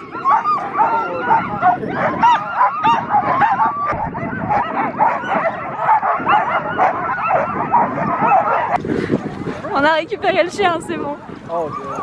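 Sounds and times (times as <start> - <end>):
sled dogs barking and yipping: 0.0 - 12.0.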